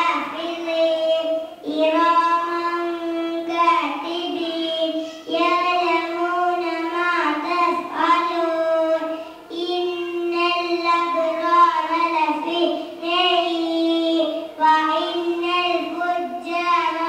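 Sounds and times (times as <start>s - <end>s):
girl chanting melodically: 0.0s - 17.0s.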